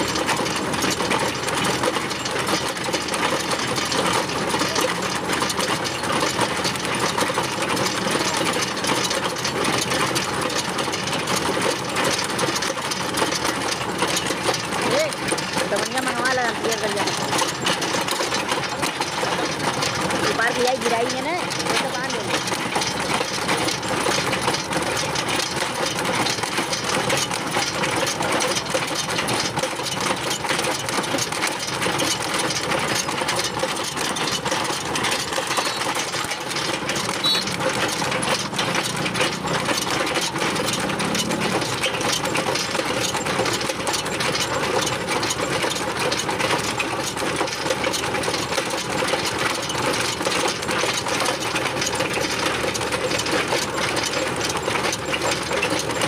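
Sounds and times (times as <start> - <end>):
earth auger drilling into soil: 0.0 - 56.0
machine engine running: 0.0 - 56.0.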